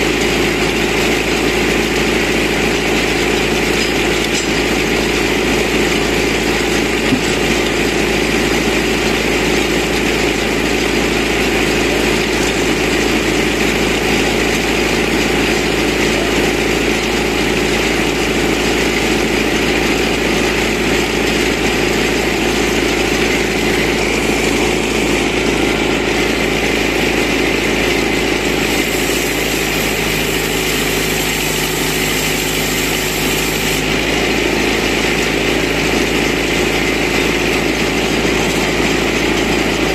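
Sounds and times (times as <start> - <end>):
band sawmill cutting log: 0.0 - 39.9
tractor engine running: 0.0 - 39.9.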